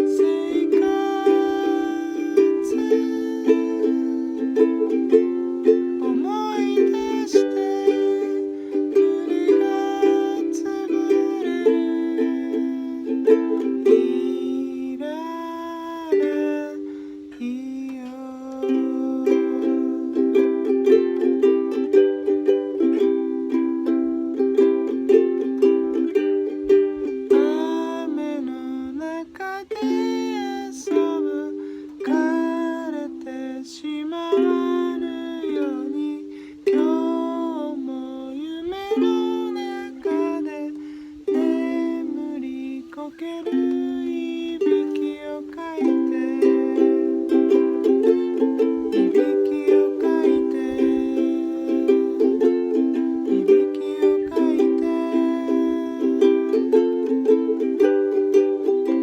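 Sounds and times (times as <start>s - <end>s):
person singing: 0.0s - 59.0s
ukulele plucked chords: 0.0s - 59.0s.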